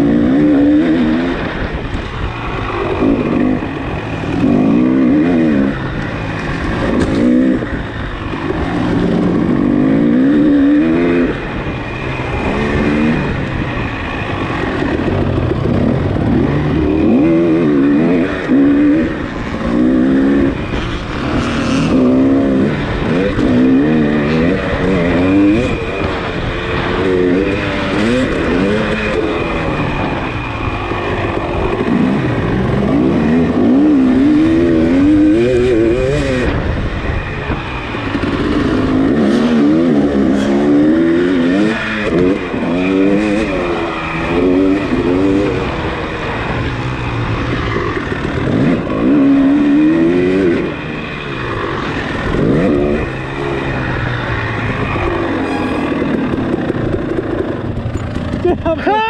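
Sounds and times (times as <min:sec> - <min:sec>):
racing engine revving: 0:00.0 - 0:58.9.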